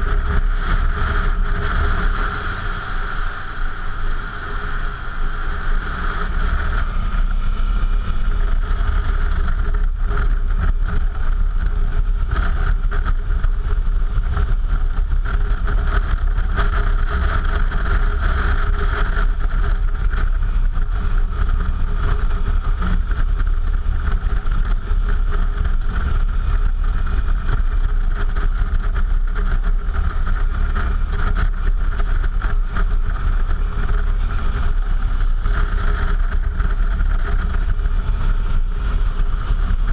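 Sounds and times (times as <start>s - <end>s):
motorcycle engine riding: 0.0s - 39.9s
wind rush: 0.0s - 39.9s.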